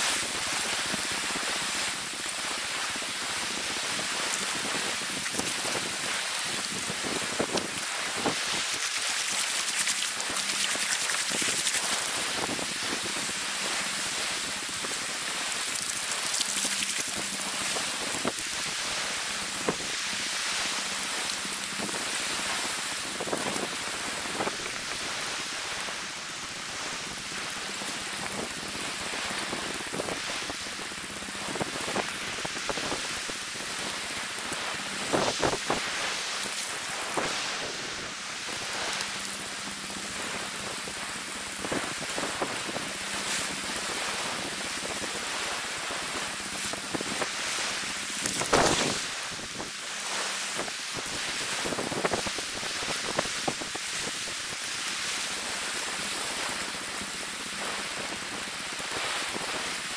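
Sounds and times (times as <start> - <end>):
water splashes: 0.0 - 59.9
water washing over wet sand: 0.0 - 59.9.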